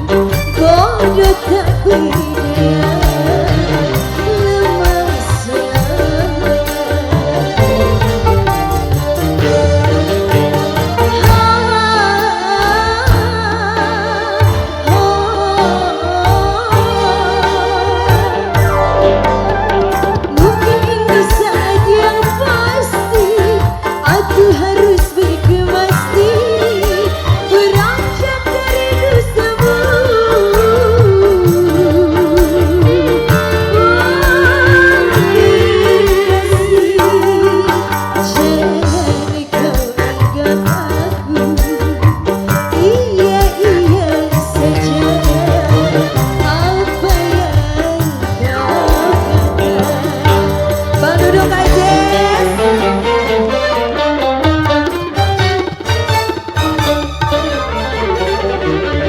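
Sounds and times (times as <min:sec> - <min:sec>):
bass: 0:00.0 - 0:55.2
hand drums: 0:00.0 - 0:57.8
dangdut band playing: 0:00.0 - 0:59.0
keyboard: 0:00.0 - 0:59.0
trilled lead melody: 0:00.0 - 0:59.0.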